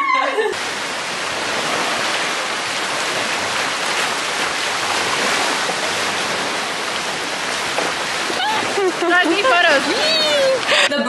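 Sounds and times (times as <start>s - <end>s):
surf washing onto beach: 0.5s - 10.9s.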